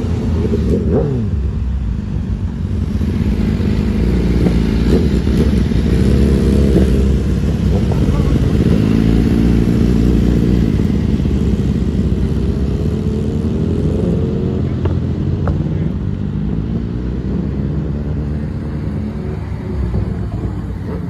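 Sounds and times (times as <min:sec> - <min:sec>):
vehicle engine accelerating: 0:00.0 - 0:21.0.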